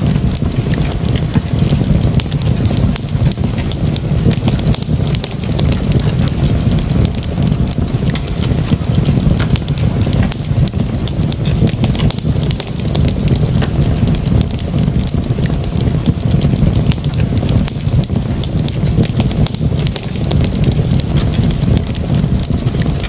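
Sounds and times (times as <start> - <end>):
fire crackling: 0.0 - 23.0
low fire rumble: 0.0 - 23.0.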